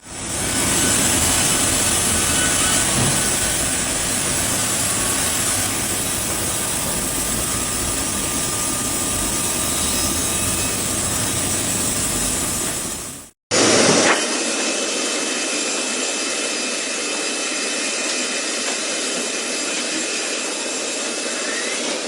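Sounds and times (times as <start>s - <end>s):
sawmill saw and machinery: 0.0s - 22.0s.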